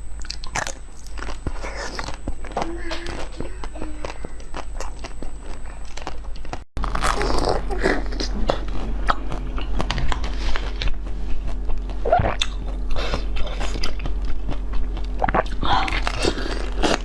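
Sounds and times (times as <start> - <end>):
chewing crunchy frozen food: 0.1 - 17.0.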